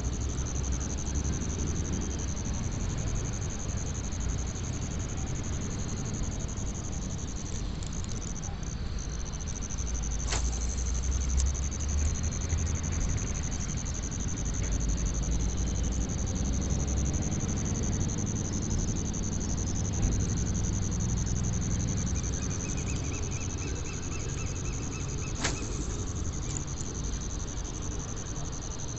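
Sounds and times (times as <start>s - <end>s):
high-pitched whine: 0.0s - 28.9s.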